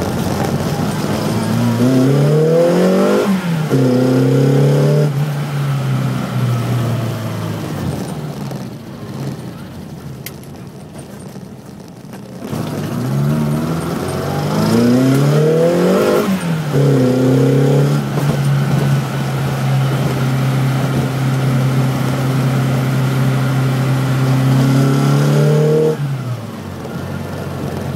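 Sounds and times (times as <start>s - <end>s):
car engine revving: 0.0s - 10.2s, 12.4s - 27.9s.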